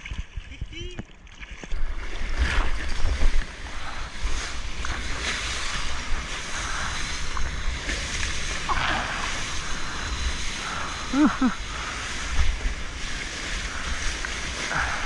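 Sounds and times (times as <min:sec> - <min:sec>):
water rushing and splashing: 0:00.0 - 0:15.0
wind rumbling on microphone: 0:00.0 - 0:15.0.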